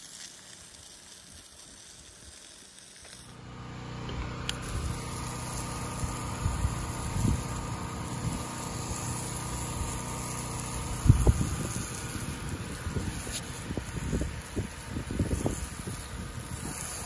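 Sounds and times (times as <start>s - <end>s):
spray hissing onto shingles: 0.0s - 3.4s, 4.4s - 17.0s
engine hum: 3.2s - 17.0s.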